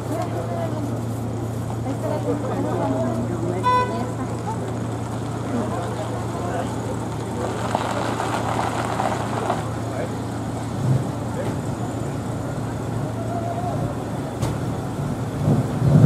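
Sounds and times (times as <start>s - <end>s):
indistinct chatter of people: 0.0s - 16.0s
low hum of vehicles: 0.0s - 16.0s.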